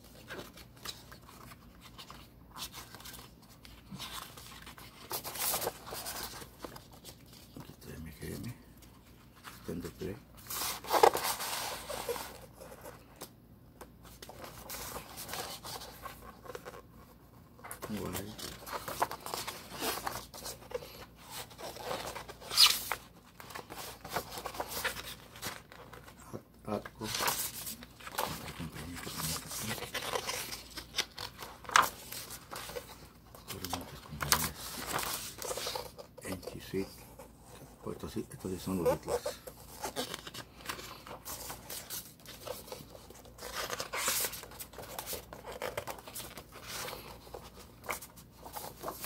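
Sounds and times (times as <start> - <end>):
book pages turning: 0.0 - 49.0
rustling handling noises: 0.0 - 49.0.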